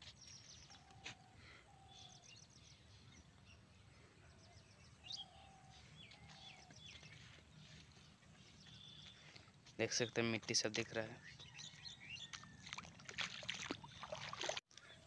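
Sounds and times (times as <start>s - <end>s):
birds chirping and calling: 0.1s - 12.8s.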